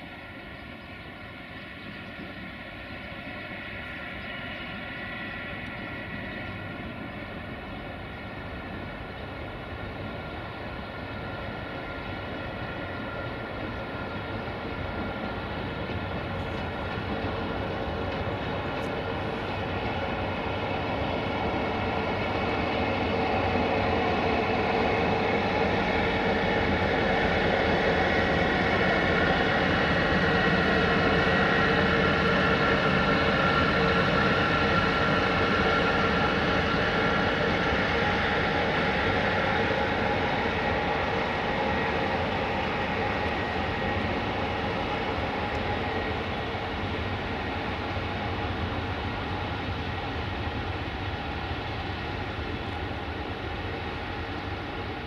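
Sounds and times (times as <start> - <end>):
electric locomotive whine: 0.0 - 55.0
train rumble: 0.0 - 55.0.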